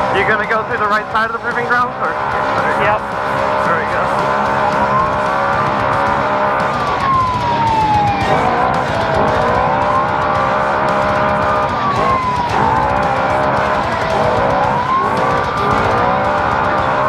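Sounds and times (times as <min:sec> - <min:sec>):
race vehicle engine running hard: 0:00.0 - 0:17.0.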